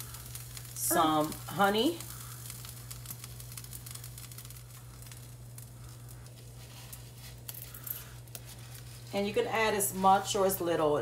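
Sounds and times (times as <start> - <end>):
hot pan sizzling: 0.0 - 11.0
steady low hum: 0.0 - 11.0.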